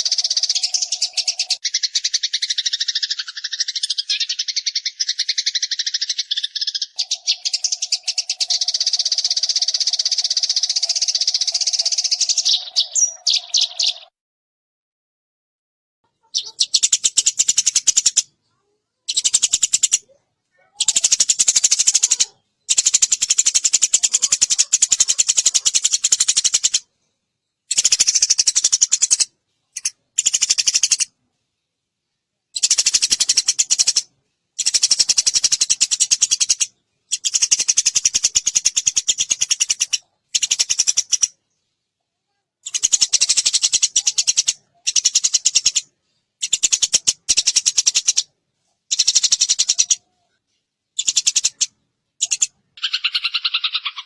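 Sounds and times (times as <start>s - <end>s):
sparrow chattering in fast trills: 0.0s - 14.1s, 16.1s - 26.9s, 27.7s - 31.2s, 32.5s - 41.4s, 42.6s - 48.3s, 48.9s - 50.1s, 51.0s - 54.0s.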